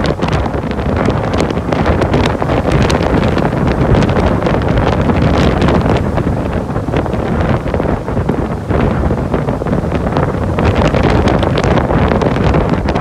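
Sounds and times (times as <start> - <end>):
wind blasting microphone: 0.0 - 13.0.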